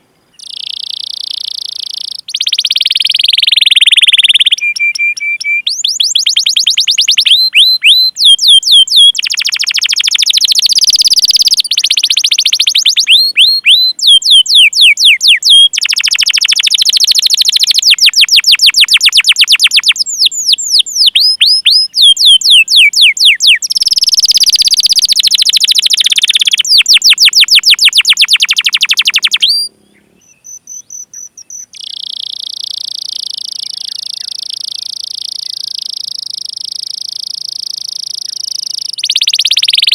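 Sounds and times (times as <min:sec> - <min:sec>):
canary singing: 0:00.3 - 0:39.9.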